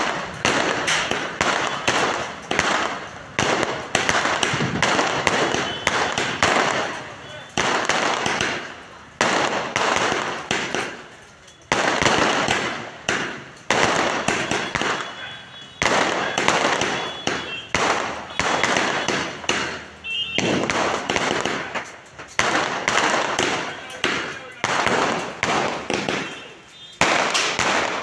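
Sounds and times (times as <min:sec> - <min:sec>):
fireworks bursting with bangs: 0:00.0 - 0:28.0
fireworks crackling fizz: 0:00.0 - 0:28.0.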